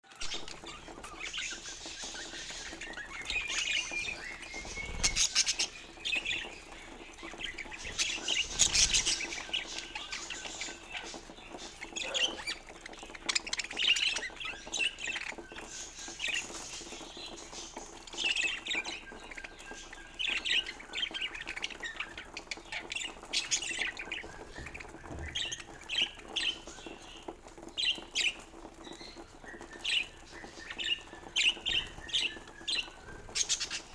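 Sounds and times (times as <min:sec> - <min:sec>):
budgerigars chirping: 0:00.2 - 0:27.3, 0:27.9 - 0:33.9.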